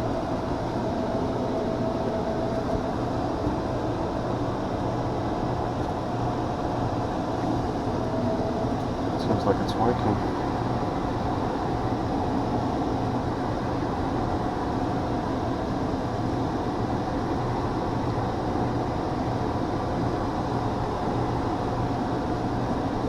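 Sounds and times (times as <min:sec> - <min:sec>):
air conditioner blower running: 0:00.0 - 0:23.0.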